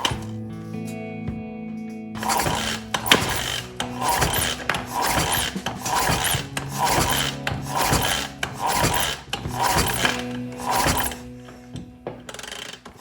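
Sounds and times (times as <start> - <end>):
rhythmic rasping strokes: 2.2 - 13.0.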